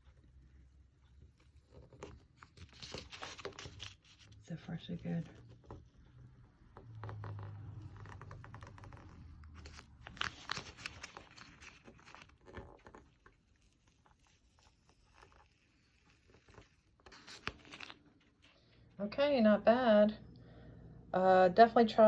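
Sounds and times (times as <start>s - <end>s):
decal rubbing and crinkling: 0.0s - 18.6s.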